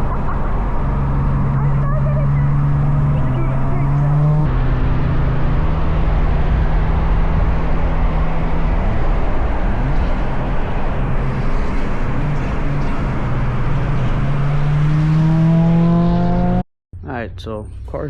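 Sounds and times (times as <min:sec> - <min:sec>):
road and wind noise: 0:00.0 - 0:16.6
car engine running: 0:00.0 - 0:18.0.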